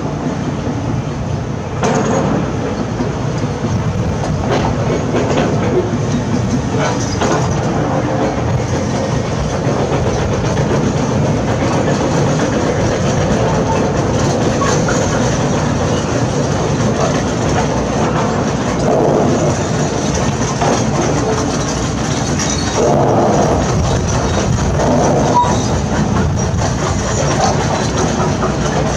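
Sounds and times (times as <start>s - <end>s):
diesel engine running: 3.4s - 28.9s
rattling and knocking metal: 3.7s - 28.9s.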